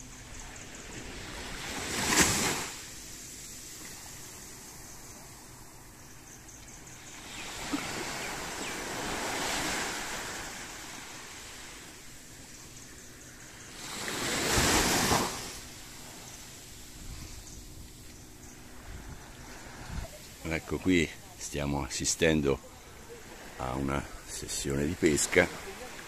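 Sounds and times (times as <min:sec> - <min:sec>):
small waves on sandy beach: 0:00.0 - 0:26.0.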